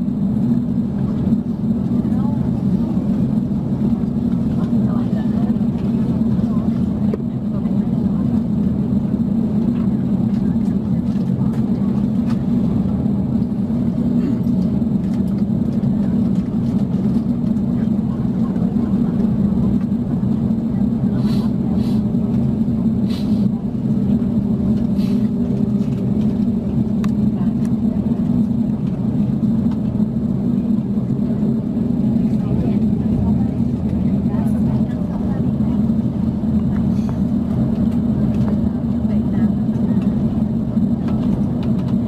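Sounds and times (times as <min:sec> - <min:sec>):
aircraft cabin engine drone: 0:00.0 - 0:42.0
wheels rumbling on taxiway: 0:00.0 - 0:42.0.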